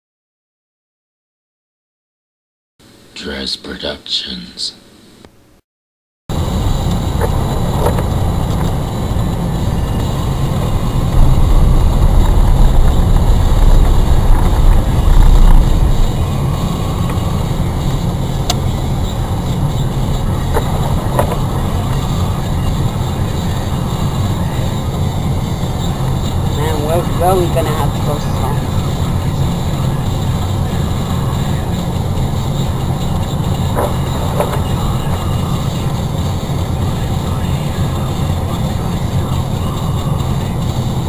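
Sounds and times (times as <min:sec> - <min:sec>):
low rumble of car driving on snow: 0:06.3 - 0:41.0.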